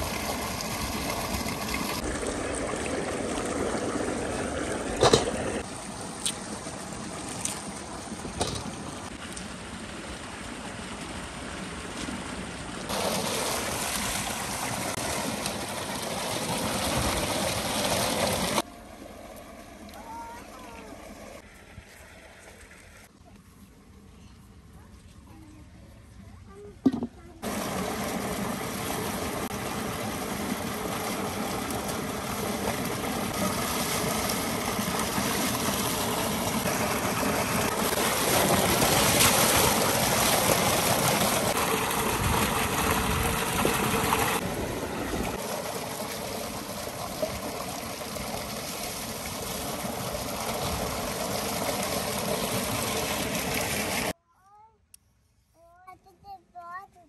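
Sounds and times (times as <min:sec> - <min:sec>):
water gushing from a pipe: 0:00.0 - 0:21.4, 0:27.4 - 0:54.2.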